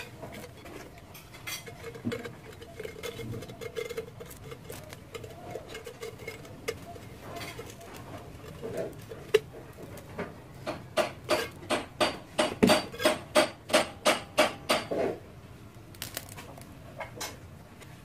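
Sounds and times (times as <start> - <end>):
ceramic pieces clicking and scraping: 0.0 - 15.2.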